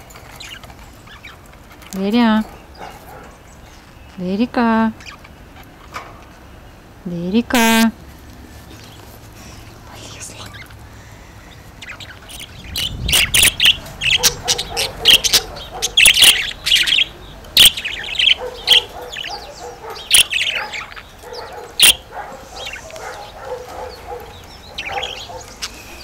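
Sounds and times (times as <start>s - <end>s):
budgerigars chirping: 0.0s - 7.9s, 8.7s - 26.0s.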